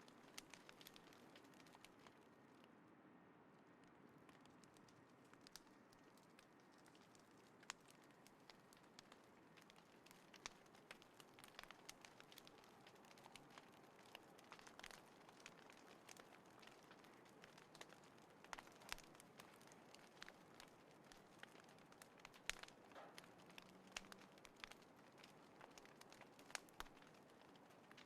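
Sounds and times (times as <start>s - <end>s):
wood fire crackling and popping: 0.0s - 2.7s, 3.8s - 28.0s.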